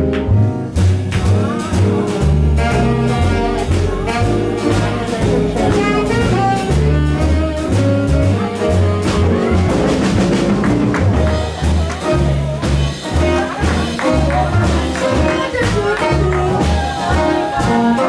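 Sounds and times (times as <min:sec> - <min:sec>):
bass line: 0:00.0 - 0:18.0
drums: 0:00.0 - 0:18.0
horn melody: 0:01.4 - 0:18.0.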